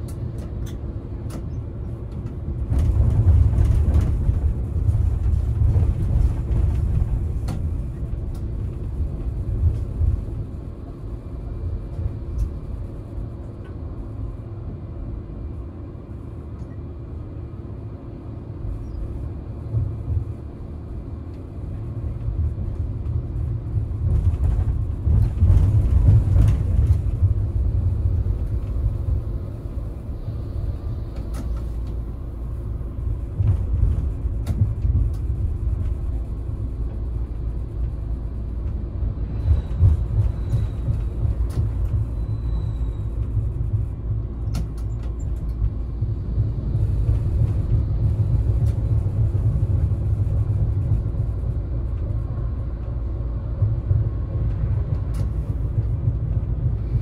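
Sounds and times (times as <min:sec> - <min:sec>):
tram motors and wheels rumbling: 0:00.0 - 0:57.0.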